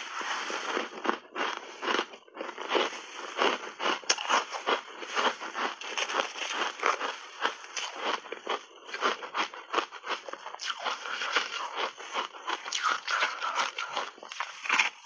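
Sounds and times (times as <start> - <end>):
ice crunching in chewing: 0.0 - 15.0.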